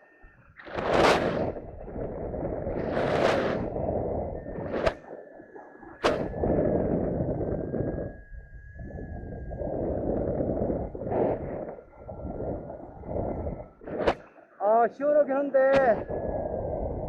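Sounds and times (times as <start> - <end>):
wind gusting over microphone: 0.0 - 14.2, 15.7 - 17.0
faint steady tone: 0.0 - 17.0.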